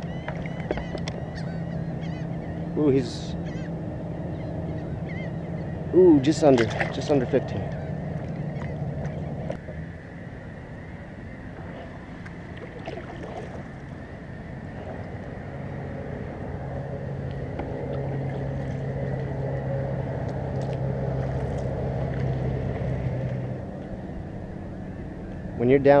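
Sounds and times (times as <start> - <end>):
motorboat engine drone: 0.0 - 26.0.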